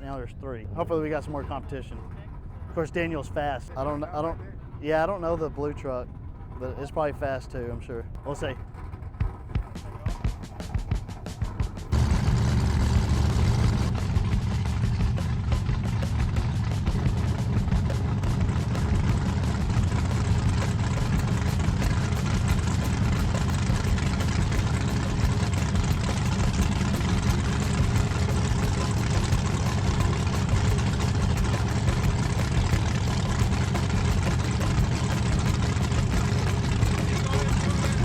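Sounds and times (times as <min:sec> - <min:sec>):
truck engine rumbling: 0:00.0 - 0:38.0.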